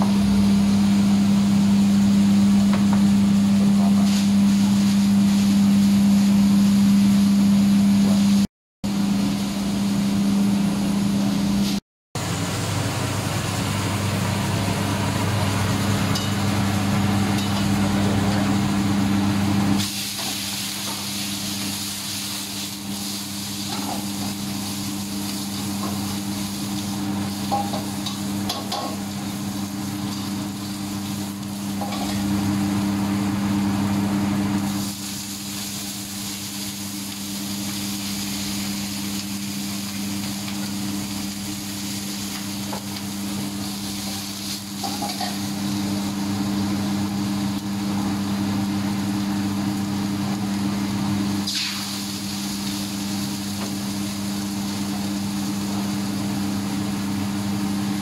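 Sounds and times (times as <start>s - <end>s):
food sizzling in wok: 1.7s - 6.6s, 11.5s - 58.0s.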